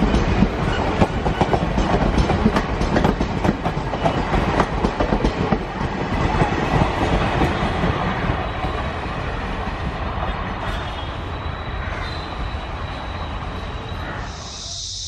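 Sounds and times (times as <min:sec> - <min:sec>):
train wheels rumbling on rails: 0:00.0 - 0:14.3.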